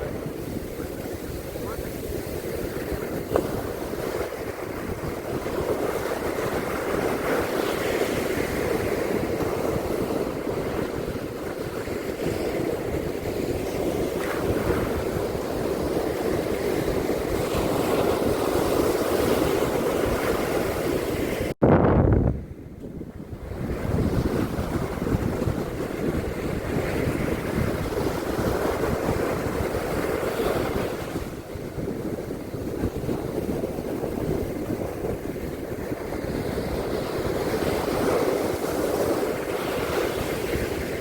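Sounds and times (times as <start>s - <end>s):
surf washing on beach: 0.0s - 21.5s, 22.4s - 41.0s
wind on microphone: 0.0s - 41.0s.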